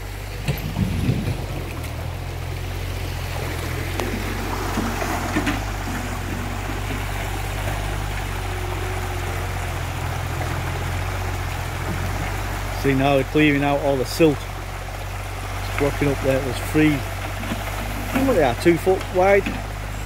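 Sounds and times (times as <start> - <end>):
excavator engine droning: 0.0 - 20.0
water rushing over rocks: 0.0 - 20.0.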